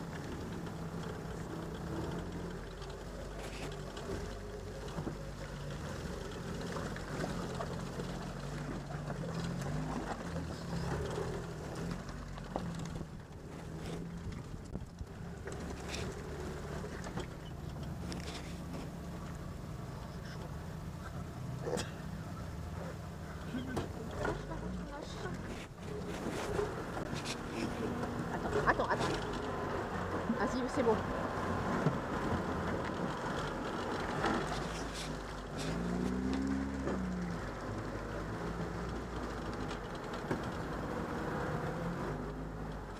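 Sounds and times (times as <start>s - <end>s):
vehicle knocks and rattles: 0.0s - 20.6s, 23.2s - 42.9s
jeep engine running: 0.0s - 42.9s
road and body noise: 0.0s - 42.9s.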